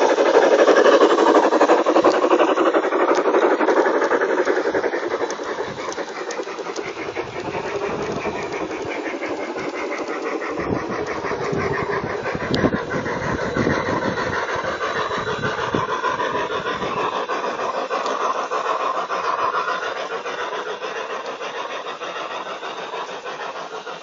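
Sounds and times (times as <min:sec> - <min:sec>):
model train clattering on track: 0:00.0 - 0:24.0.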